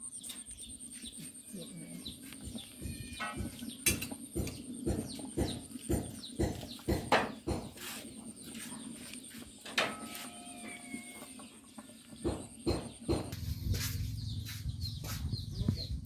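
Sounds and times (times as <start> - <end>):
chickens clucking: 2.0 - 16.0.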